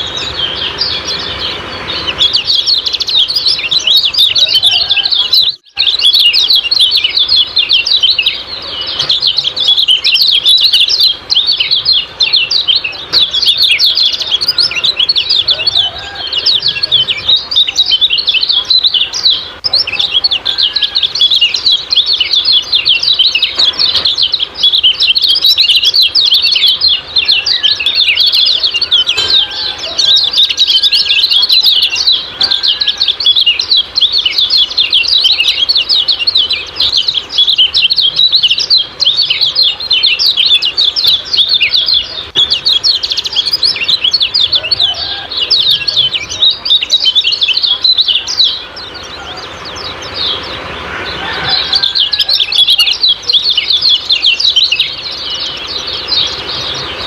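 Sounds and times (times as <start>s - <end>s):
bird chirping rapidly: 0.0s - 57.0s.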